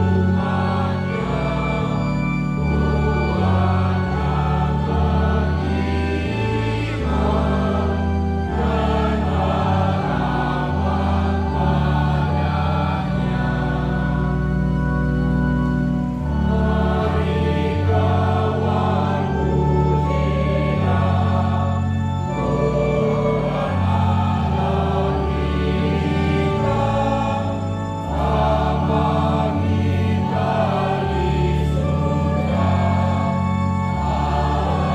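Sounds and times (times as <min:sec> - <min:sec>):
choir singing a hymn: 0:00.0 - 0:34.9
sustained low bass notes: 0:00.0 - 0:34.9.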